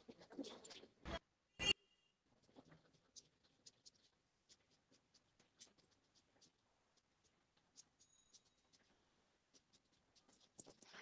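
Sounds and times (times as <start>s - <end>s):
small clicks and scratches: 0.0s - 1.0s, 2.3s - 11.0s.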